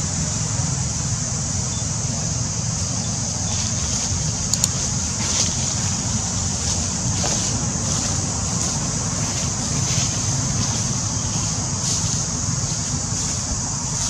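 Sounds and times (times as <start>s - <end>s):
high-pitched hiss: 0.0s - 14.0s
wind rumble on microphone: 0.0s - 14.0s.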